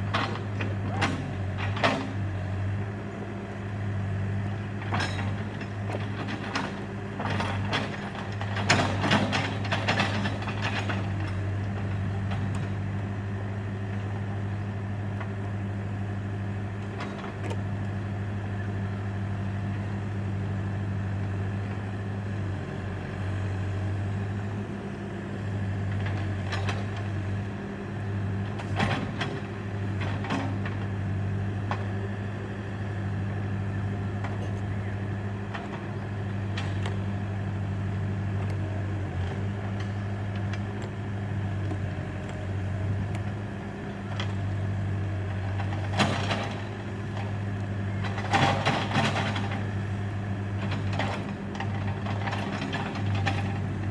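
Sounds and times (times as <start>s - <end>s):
backhoe engine running: 0.0s - 53.9s.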